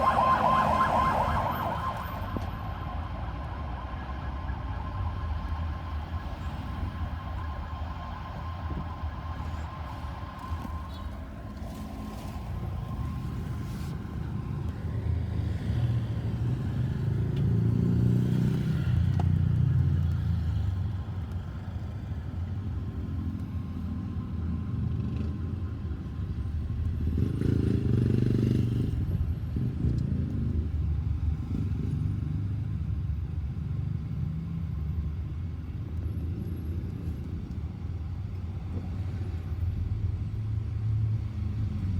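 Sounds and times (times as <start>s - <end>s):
car and motorcycle engines: 0.0s - 41.9s.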